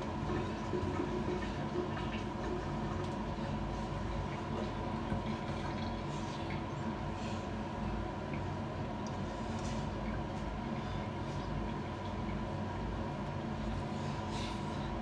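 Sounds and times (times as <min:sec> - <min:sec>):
small wet clicks and drips: 0:00.0 - 0:07.0, 0:07.9 - 0:13.8
steady low hum: 0:00.0 - 0:15.0.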